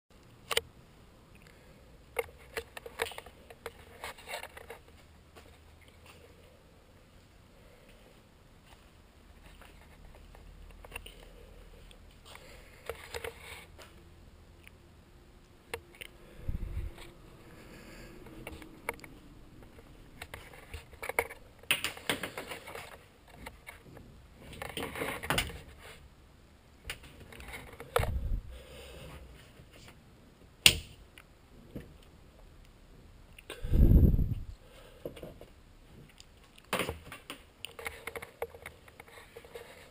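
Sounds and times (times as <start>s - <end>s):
faint steady hum: 0.1s - 39.9s.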